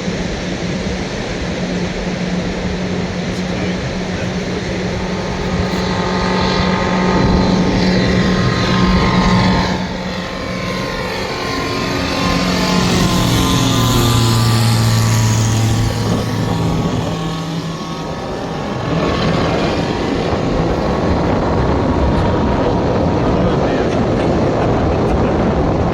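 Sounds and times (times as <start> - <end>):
propeller aircraft engine passing: 0.0 - 25.9.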